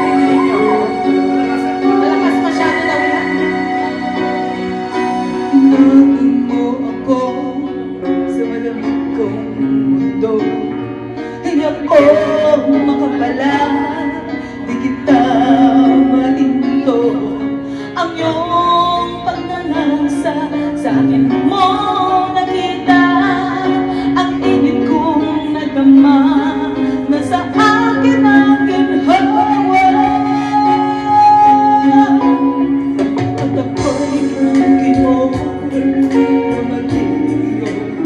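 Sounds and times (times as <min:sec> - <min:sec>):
electric guitar: 0:00.0 - 0:38.0
woman singing into microphone: 0:00.0 - 0:38.0.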